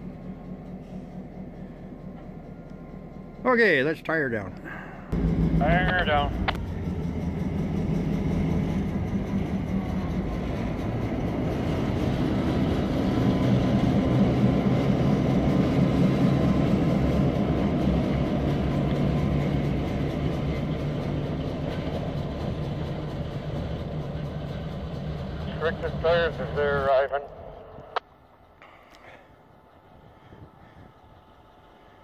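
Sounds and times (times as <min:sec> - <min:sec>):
diesel locomotive passing: 0:00.0 - 0:32.0.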